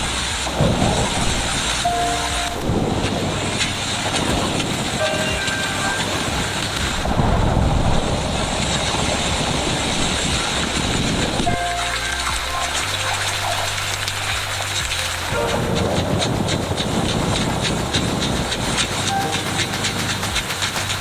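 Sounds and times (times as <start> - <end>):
heavy rainstorm with wind: 0.0 - 21.0.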